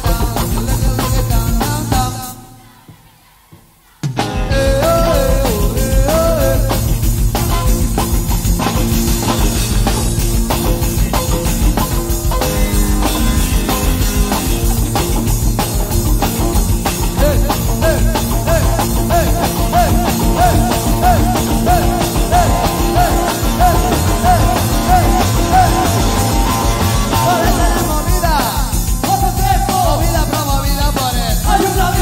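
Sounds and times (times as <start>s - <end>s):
rock band playing live: 0.0s - 2.4s, 4.0s - 32.0s
steady drum beat: 0.0s - 2.4s, 3.0s - 32.0s.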